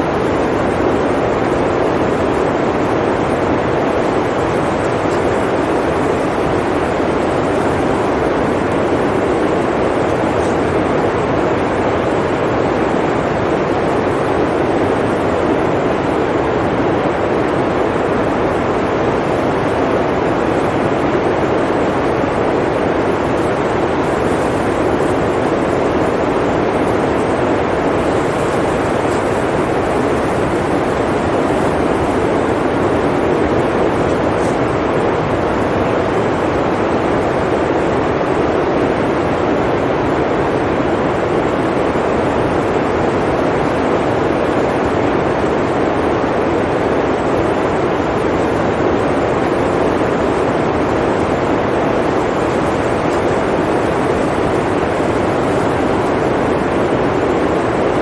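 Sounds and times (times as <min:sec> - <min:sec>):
blizzard wind blowing: 0:00.0 - 0:58.0.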